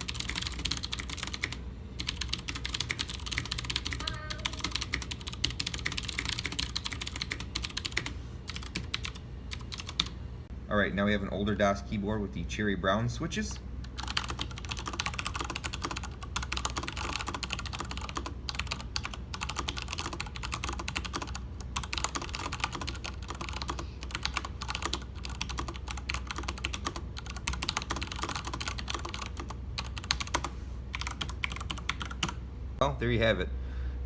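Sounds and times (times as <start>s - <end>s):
mechanical keyboard typing: 0.0s - 10.2s, 13.8s - 32.4s.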